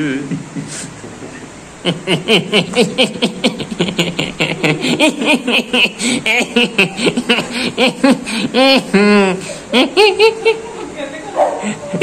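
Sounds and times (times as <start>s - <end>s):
man laughing: 0.0s - 10.8s.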